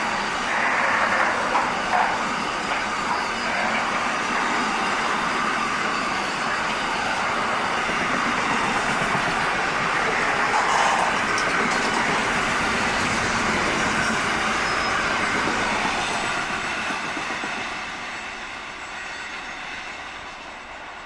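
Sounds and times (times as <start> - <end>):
freight train wagons rolling past: 0.0 - 21.0.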